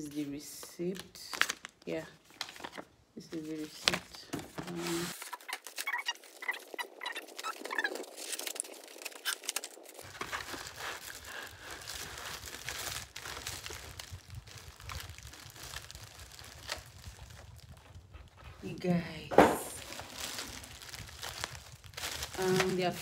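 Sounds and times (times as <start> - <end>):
packaging rustling and crinkling: 0.4 - 23.0.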